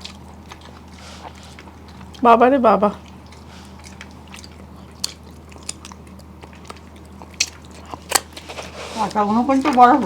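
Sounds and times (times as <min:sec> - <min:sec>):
soft chewing: 0:00.0 - 0:10.0.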